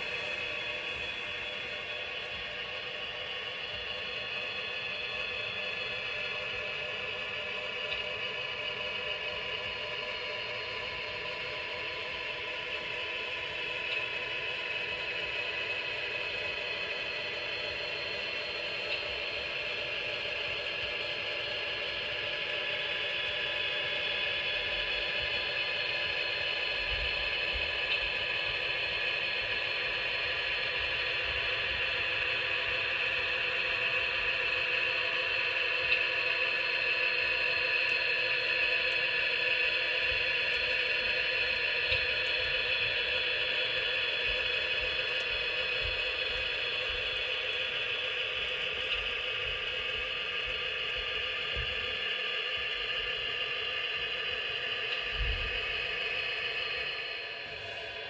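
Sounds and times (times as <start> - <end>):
model train whirring on rails: 0.0 - 58.0.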